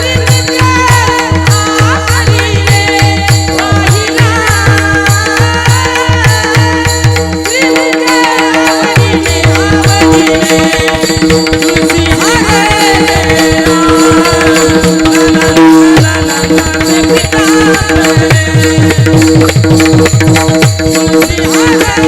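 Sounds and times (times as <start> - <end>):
hand drum beats: 0.0 - 22.0
person singing devotional song: 0.0 - 22.0.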